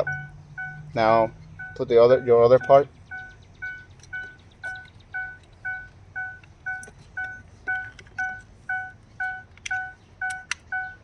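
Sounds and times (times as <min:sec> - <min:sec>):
car warning chime beeping: 0:00.0 - 0:11.0.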